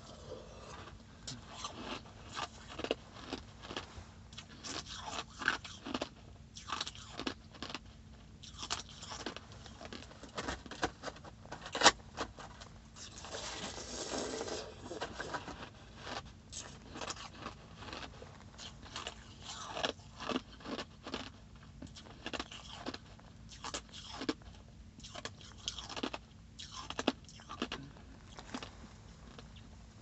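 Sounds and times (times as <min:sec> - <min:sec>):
person chewing ice: 0:00.0 - 0:12.0, 0:12.9 - 0:29.8.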